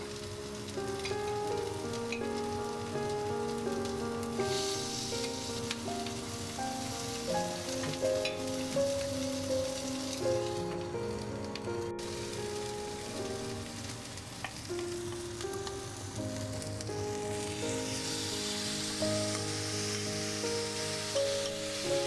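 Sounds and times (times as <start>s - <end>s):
food sizzling in a frying pan: 0.0s - 22.0s
slow background music: 0.0s - 22.0s.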